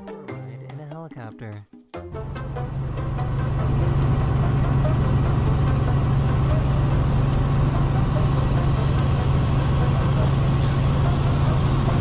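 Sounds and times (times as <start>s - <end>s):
helicopter engine and rotor: 2.1s - 12.0s.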